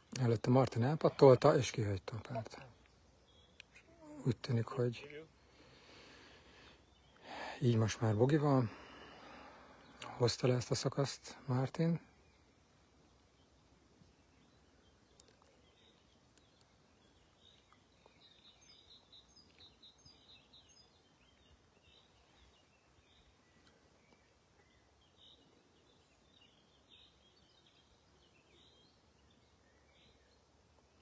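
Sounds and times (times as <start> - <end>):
faint birdsong chirps: 0.0 - 31.0.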